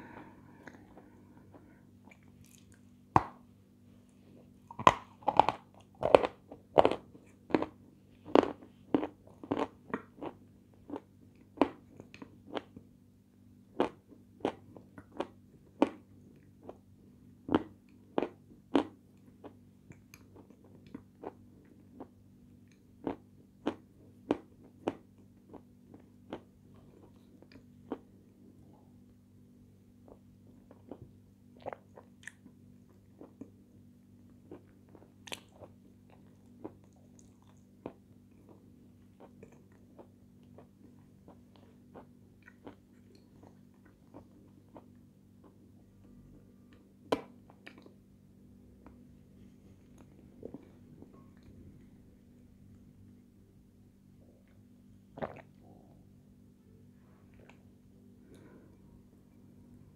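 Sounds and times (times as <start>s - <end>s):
crunching and chewing sweets: 0.0s - 3.4s, 4.4s - 29.1s, 29.9s - 53.2s, 54.2s - 56.2s.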